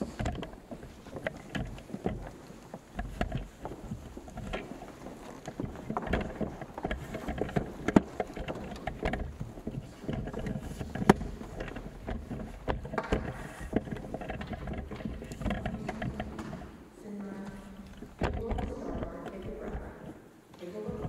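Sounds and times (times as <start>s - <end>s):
microphone handling knocks and rustles: 0.0s - 21.0s.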